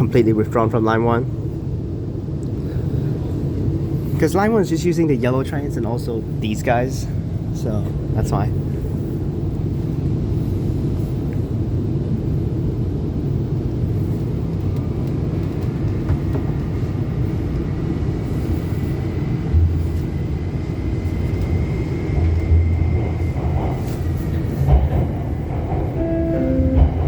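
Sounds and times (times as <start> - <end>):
train rumble inside carriage: 0.0 - 27.0.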